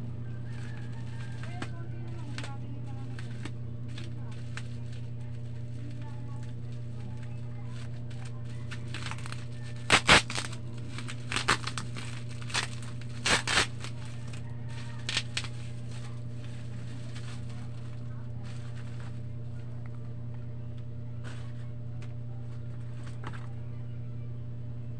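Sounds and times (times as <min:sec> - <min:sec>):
steady low hum: 0:00.0 - 0:24.9
plastic packaging crinkling: 0:00.3 - 0:20.4.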